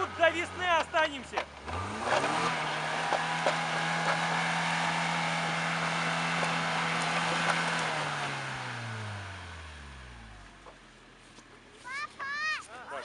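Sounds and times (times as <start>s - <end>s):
car engine revving high: 0.0s - 10.8s.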